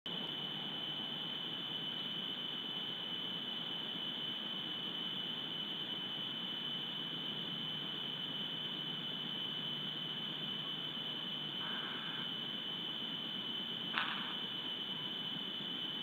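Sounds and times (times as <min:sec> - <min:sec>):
high-pitched electronic whine: 0:00.1 - 0:16.0
steady hiss: 0:00.1 - 0:16.0.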